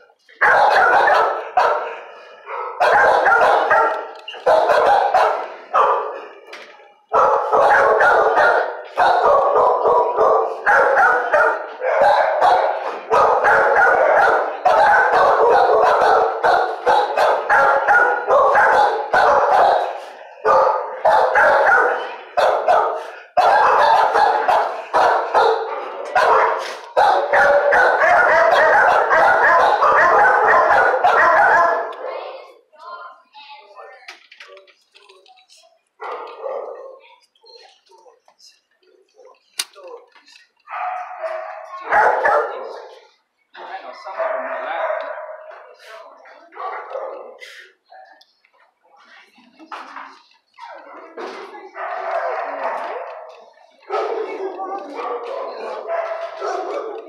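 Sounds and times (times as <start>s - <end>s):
dogs barking: 0.0s - 6.5s, 7.1s - 32.3s, 36.0s - 38.2s, 40.3s - 43.2s, 44.0s - 47.6s, 50.5s - 57.0s.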